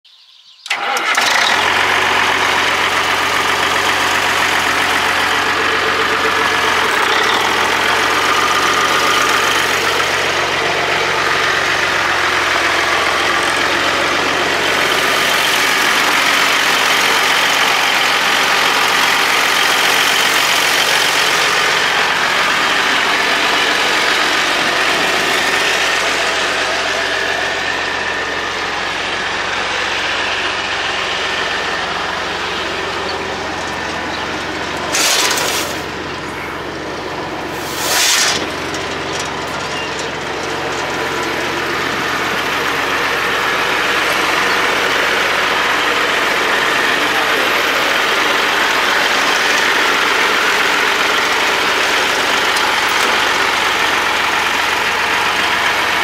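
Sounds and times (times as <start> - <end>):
diesel truck engine idling: 0.7 - 56.0.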